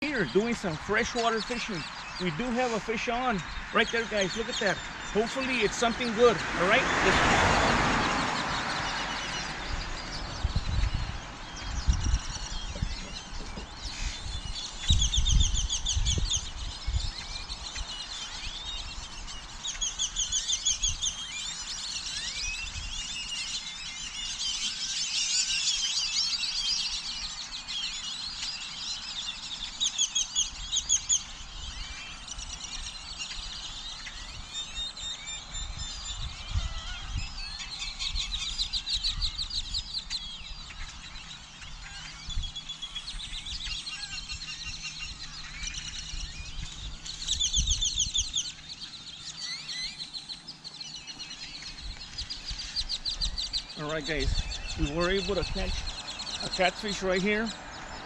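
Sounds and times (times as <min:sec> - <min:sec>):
birds calling and chirping: 0:00.0 - 0:58.0
rapid high bird trills: 0:00.0 - 0:58.0.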